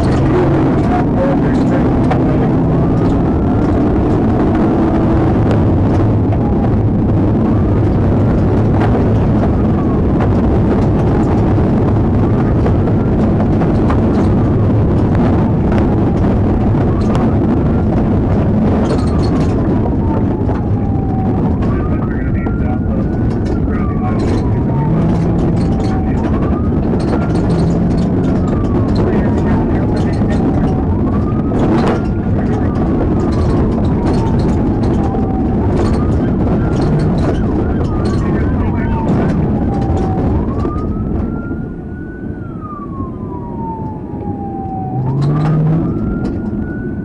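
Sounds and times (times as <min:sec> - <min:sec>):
knocks and bangs: 0:00.0 - 0:41.6
siren wailing: 0:00.0 - 0:47.0
vehicle engine rumbling: 0:00.0 - 0:47.0.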